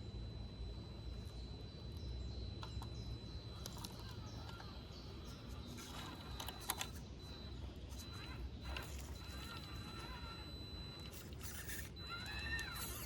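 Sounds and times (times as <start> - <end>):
thin high whine: 0.0 - 13.0
small birds chirping: 0.6 - 13.0.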